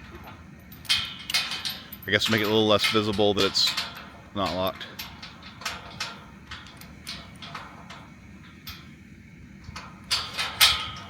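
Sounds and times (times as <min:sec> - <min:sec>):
metal chain and lock clinking: 0:00.0 - 0:08.9, 0:09.8 - 0:11.0.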